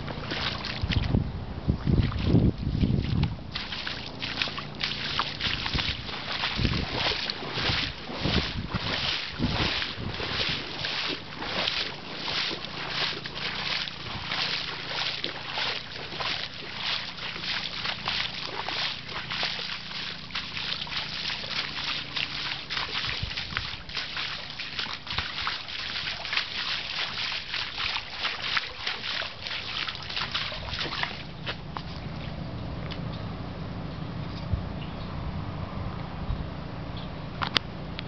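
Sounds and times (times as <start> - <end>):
wading through shallow water: 0.0 - 32.6.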